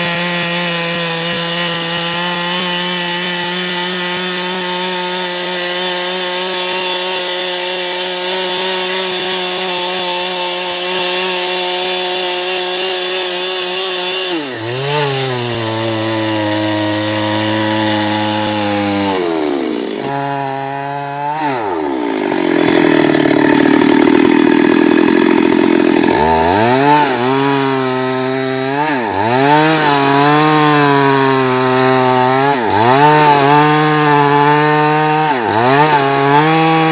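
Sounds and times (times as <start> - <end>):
chainsaw engine running: 0.0 - 36.9
rough rasping noise: 0.0 - 36.9.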